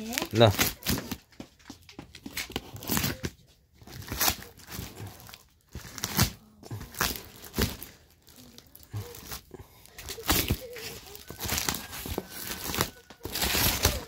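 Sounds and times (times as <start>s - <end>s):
packing tape and cardboard ripping: 0.0s - 1.2s, 2.1s - 14.0s.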